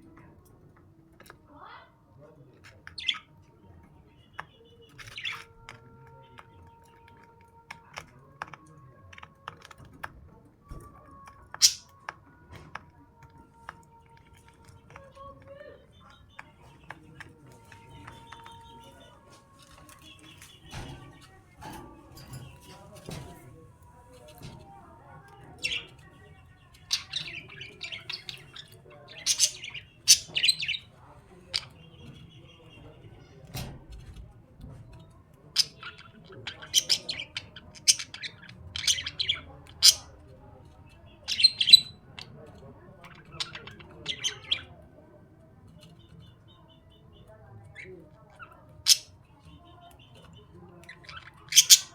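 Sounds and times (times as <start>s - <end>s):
pet birds chirping: 0.0s - 51.9s.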